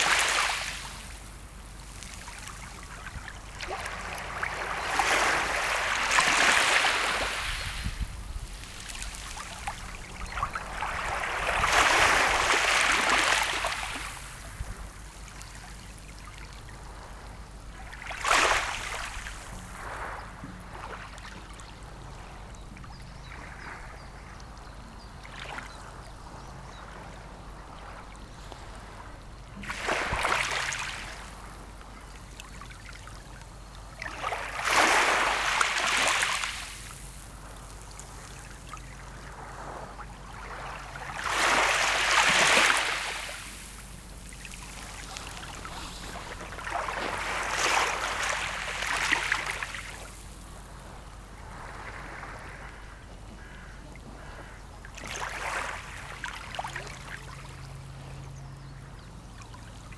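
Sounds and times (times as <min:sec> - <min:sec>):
sea waves breaking on shore: 0:00.0 - 0:58.4.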